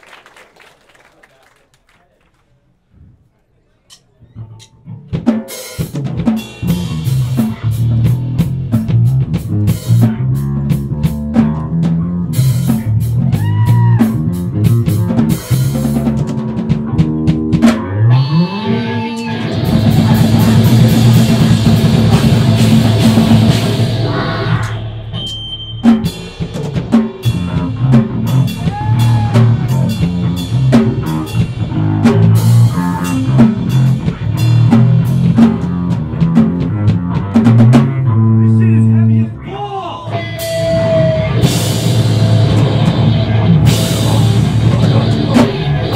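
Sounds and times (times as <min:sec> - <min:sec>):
bass guitar: 0:04.0 - 0:45.9
pounding drum kit: 0:05.0 - 0:18.3, 0:19.3 - 0:38.2, 0:39.8 - 0:45.9
distorted electric guitar: 0:06.6 - 0:39.5, 0:40.1 - 0:45.9.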